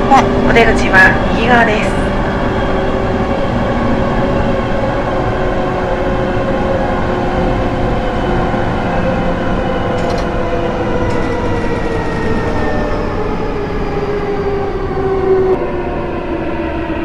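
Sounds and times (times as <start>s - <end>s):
electric train decelerating: 0.0s - 17.0s.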